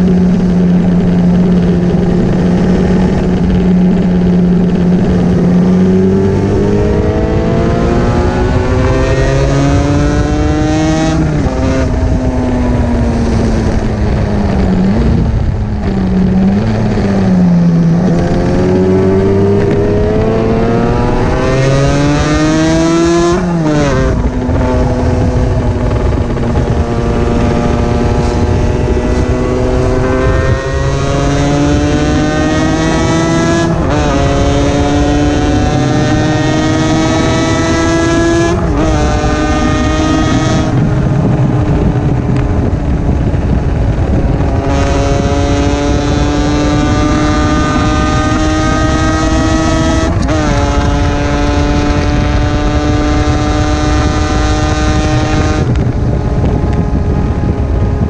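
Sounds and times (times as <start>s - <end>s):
motorcycle engine accelerating: 0.0s - 58.0s
wind rush: 0.0s - 58.0s.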